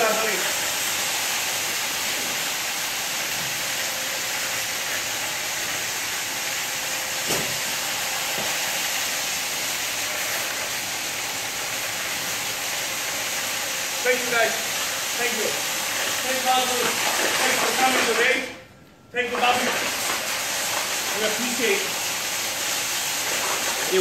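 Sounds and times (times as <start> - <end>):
power trowel hissing: 0.0 - 24.0.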